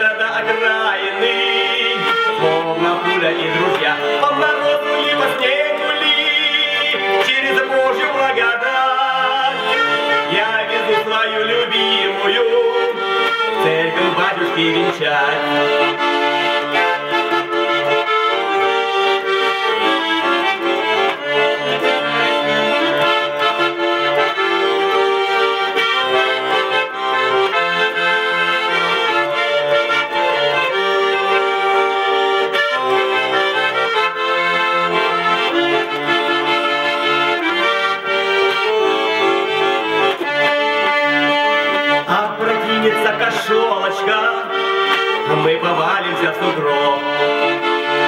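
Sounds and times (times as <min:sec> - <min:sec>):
button accordion playing: 0:00.0 - 0:48.0.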